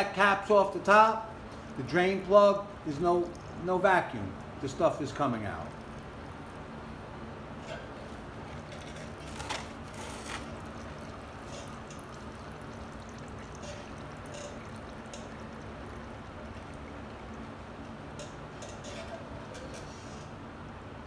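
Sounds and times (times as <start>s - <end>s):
drips: 0.0s - 20.2s
oil draining in thin stream: 1.4s - 20.2s.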